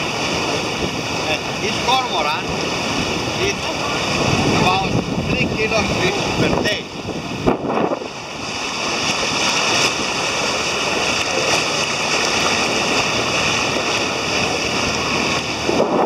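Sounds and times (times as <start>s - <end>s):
water rushing along hull: 0.0s - 16.0s.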